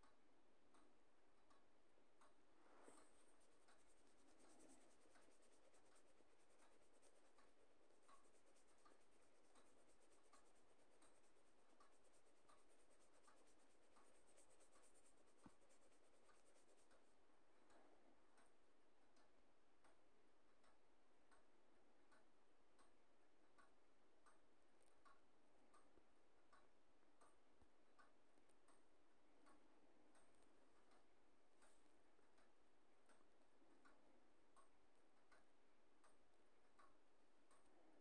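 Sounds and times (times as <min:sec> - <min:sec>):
faint hiss: 0:00.0 - 0:38.0
small irregular ticks: 0:00.0 - 0:38.0.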